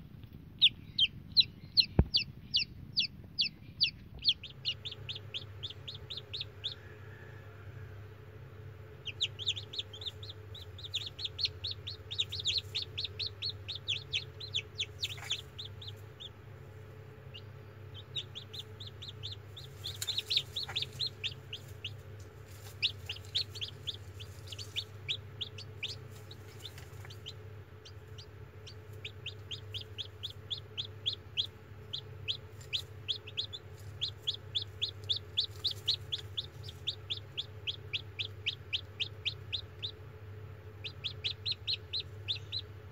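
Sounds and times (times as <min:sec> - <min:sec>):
steady low hum: 0:00.0 - 0:42.9
chicks peeping: 0:00.2 - 0:42.9.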